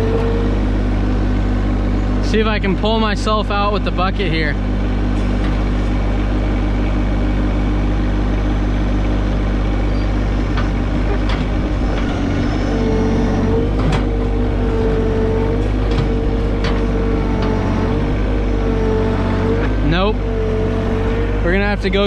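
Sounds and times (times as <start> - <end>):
steady higher whine: 0.0 - 22.0
tractor engine running hard: 0.0 - 22.0.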